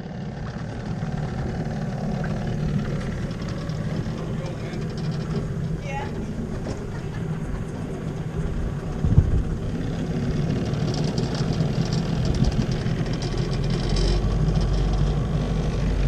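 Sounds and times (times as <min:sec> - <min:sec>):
boat motor running: 0:00.0 - 0:16.0.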